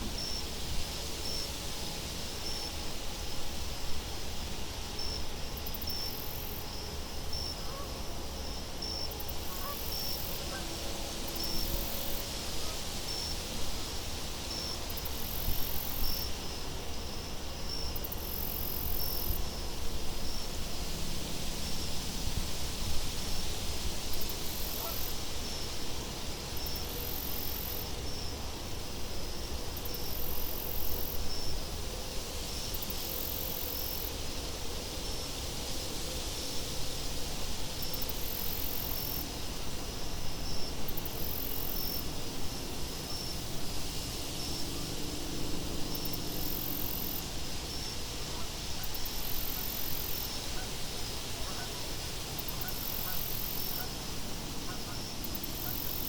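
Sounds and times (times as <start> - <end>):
crickets chirping: 0.0 - 56.0
wind hiss: 0.0 - 56.0.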